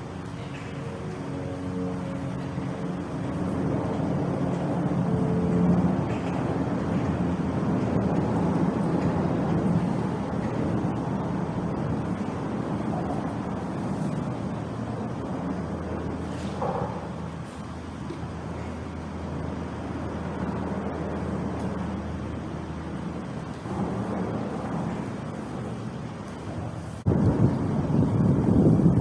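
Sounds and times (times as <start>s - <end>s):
traffic engine and road rumble: 0.0s - 29.0s.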